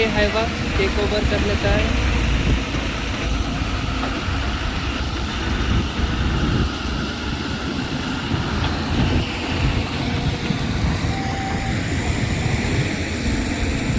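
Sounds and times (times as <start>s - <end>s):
heavy diesel machinery rumbling: 0.0s - 13.9s.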